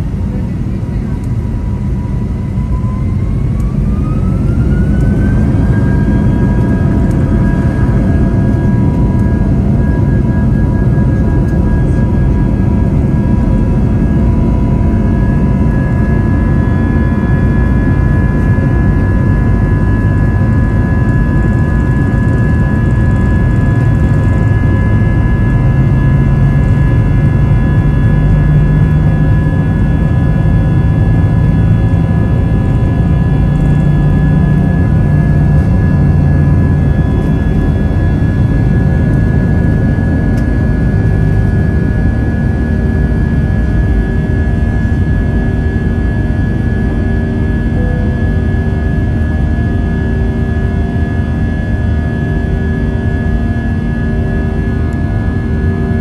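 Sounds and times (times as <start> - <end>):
jet engines roaring at takeoff: 0.0 - 56.0.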